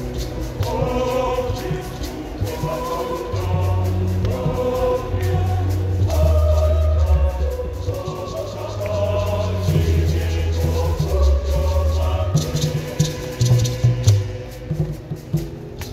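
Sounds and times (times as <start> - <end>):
choir singing a hymn: 0.0 - 15.9.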